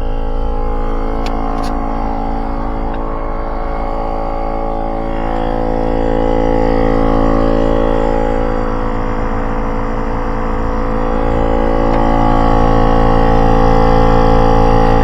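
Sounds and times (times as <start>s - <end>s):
air compressor buzzing hum: 0.0s - 15.0s.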